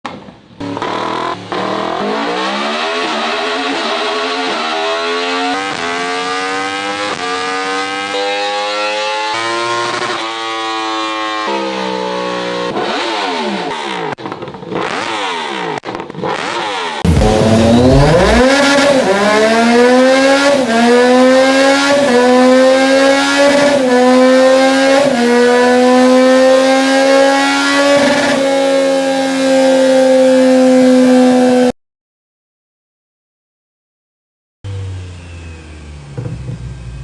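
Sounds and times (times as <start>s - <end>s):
motorcycle engines revving: 0.1s - 31.7s.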